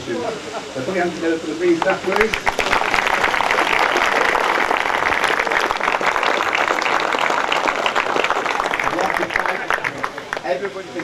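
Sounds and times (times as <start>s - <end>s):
large crowd applauding: 1.8s - 10.8s.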